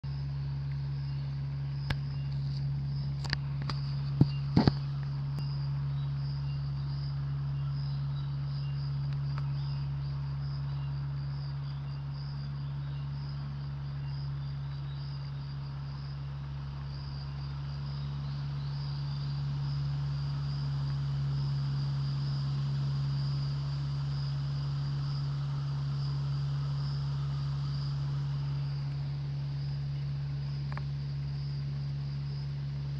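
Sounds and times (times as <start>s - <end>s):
low hum: 0.0s - 32.9s
insects chirping trill: 0.1s - 32.9s.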